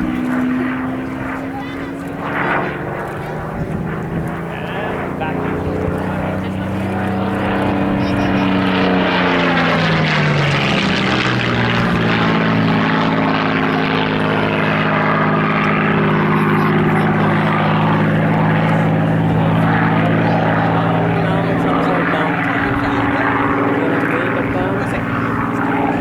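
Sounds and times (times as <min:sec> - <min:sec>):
propeller aircraft engine drone: 0:00.0 - 0:26.0.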